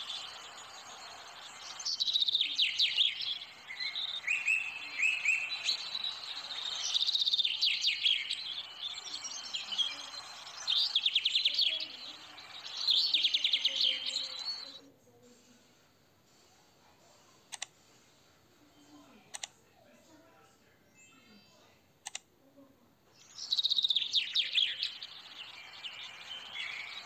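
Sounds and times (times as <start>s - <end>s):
songbird chirps and trills: 0.0s - 27.0s.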